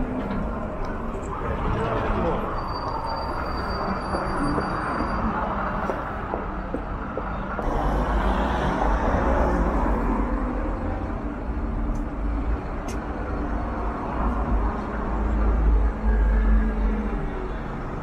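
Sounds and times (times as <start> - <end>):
cars passing: 0.0 - 18.0.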